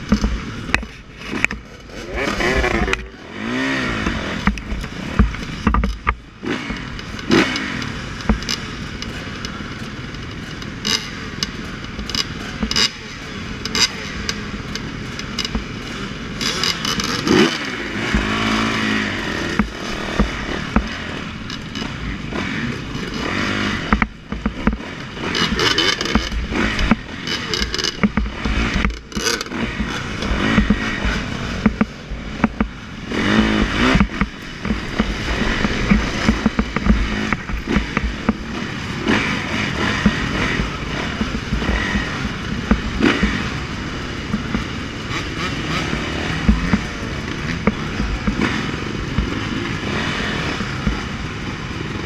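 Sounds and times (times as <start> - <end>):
dirt bike engines revving: 0.0 - 52.0
sharp knocks and clatter: 0.0 - 52.0.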